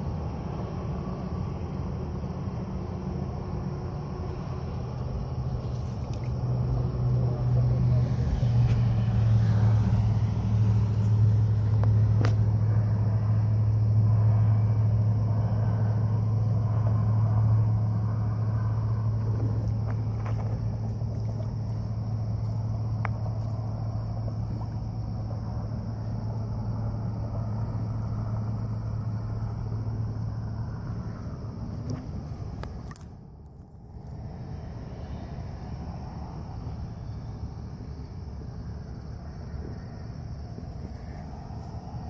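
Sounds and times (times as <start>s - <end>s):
low motor drone: 0.0s - 42.0s.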